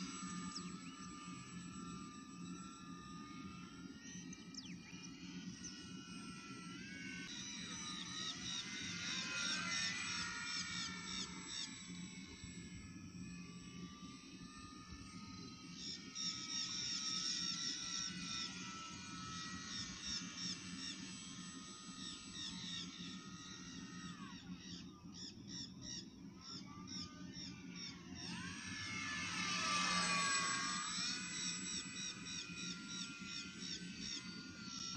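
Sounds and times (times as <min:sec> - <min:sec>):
model airplane motor whining: 0:00.0 - 0:34.9.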